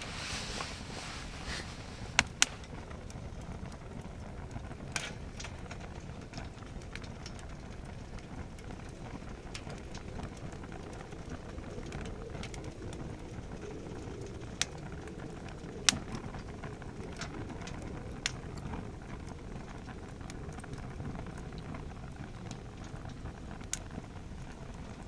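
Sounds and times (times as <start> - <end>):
burning wood crackling and popping: 0.0 - 25.0
campfire flames rumbling: 0.0 - 25.0.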